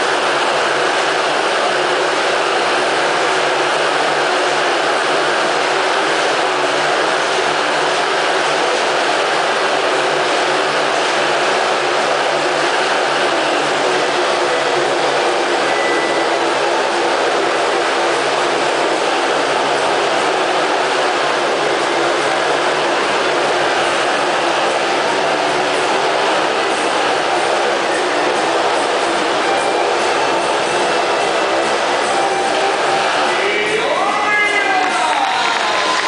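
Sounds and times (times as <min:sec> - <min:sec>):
motorcycle engines roaring: 0:00.0 - 0:36.0.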